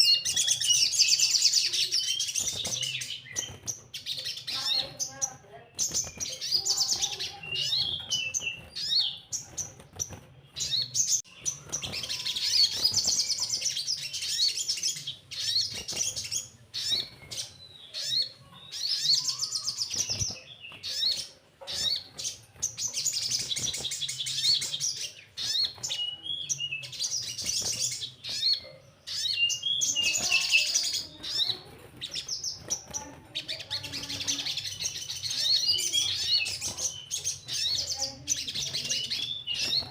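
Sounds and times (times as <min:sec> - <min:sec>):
bird singing high rapid trills: 0:00.0 - 0:39.9.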